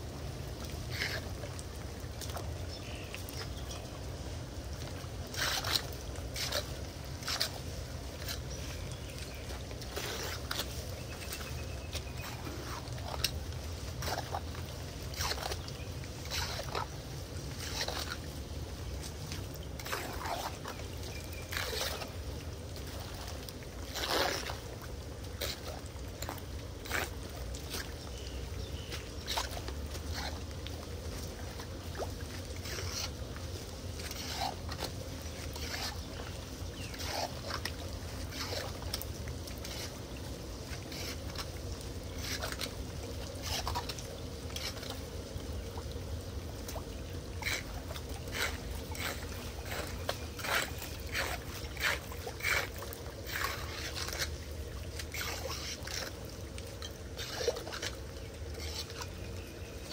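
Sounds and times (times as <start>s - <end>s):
low rush of water: 0.0s - 59.9s
water splashing and sloshing: 0.0s - 59.9s.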